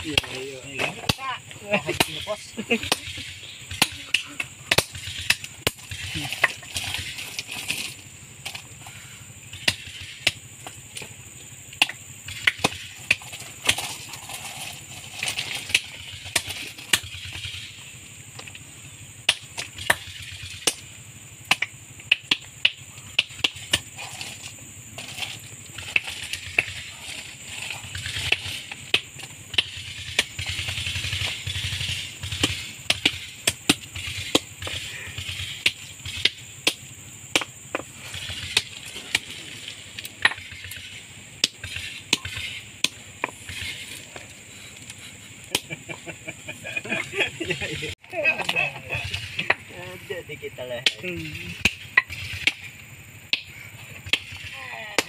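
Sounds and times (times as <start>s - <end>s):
hammers striking rocks: 0.0s - 18.6s, 19.2s - 44.3s, 45.4s - 46.0s, 48.4s - 49.8s, 50.6s - 55.0s
steady high hiss: 0.0s - 55.0s.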